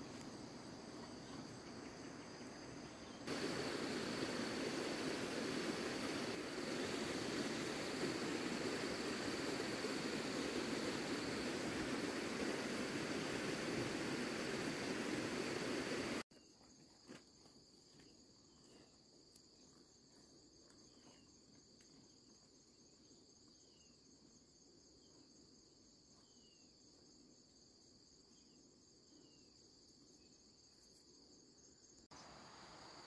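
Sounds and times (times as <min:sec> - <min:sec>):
insect chorus trilling: 0:00.0 - 0:16.5, 0:22.0 - 0:33.0.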